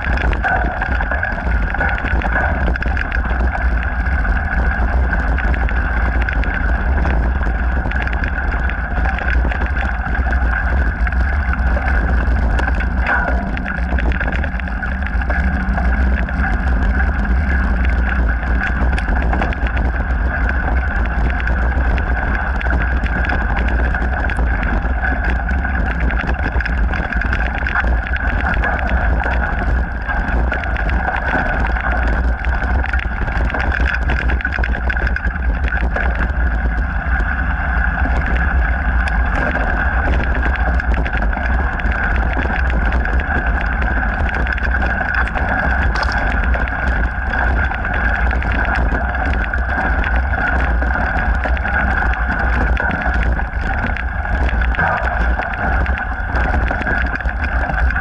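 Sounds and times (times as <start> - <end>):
bike rattling: 0.0 - 58.0
bike tyres on gravel trail: 0.0 - 58.0
wind buffeting microphone: 0.0 - 58.0.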